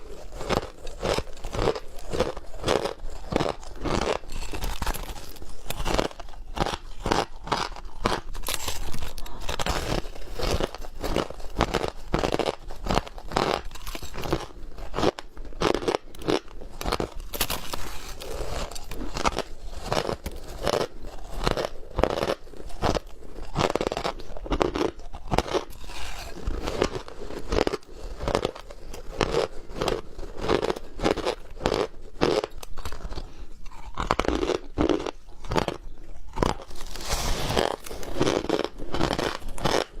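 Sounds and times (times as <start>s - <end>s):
ice being chewed crunching: 0.0s - 40.0s.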